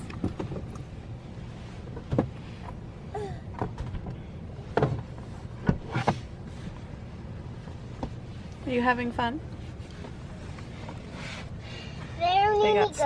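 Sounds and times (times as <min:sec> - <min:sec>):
low rumble inside car cabin: 0:00.0 - 0:13.0.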